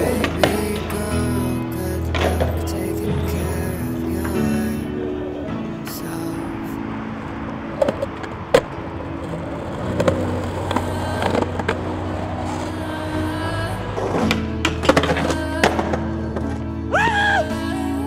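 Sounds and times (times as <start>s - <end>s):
skateboard clacking: 0.0s - 16.7s
skateboard wheels rolling on pavement: 0.0s - 18.0s.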